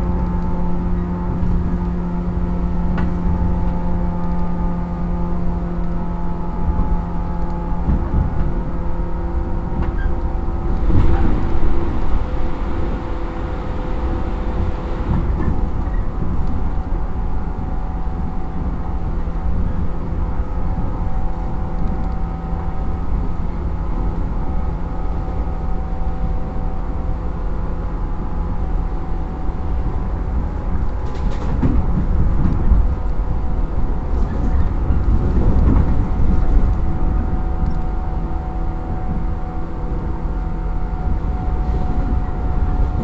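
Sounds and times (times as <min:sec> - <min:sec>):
electric train motor humming: 0:00.0 - 0:43.0.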